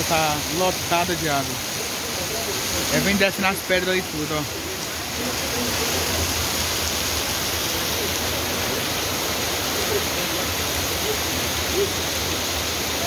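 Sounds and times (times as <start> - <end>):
floodwater rushing over stones: 0.0 - 13.0
heavy rain pouring: 0.0 - 13.0.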